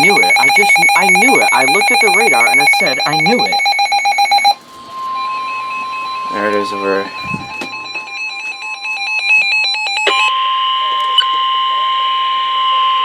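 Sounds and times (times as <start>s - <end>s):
warbling digital data tones: 0.0s - 4.6s, 5.2s - 11.6s
steady alarm tone: 0.0s - 13.0s.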